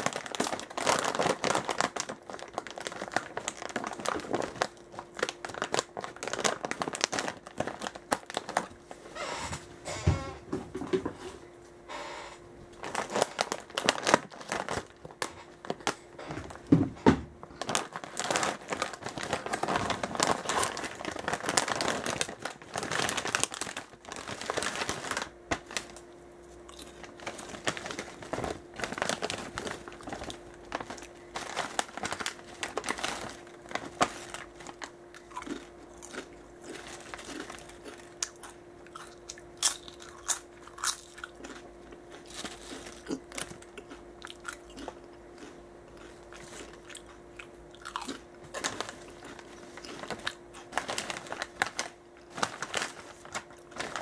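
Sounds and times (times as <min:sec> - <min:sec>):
chips crunching: 0:00.0 - 0:08.8, 0:12.8 - 0:16.0, 0:17.5 - 0:54.0
chip bag crinkling: 0:00.0 - 0:09.0, 0:12.7 - 0:16.6, 0:17.4 - 0:54.0.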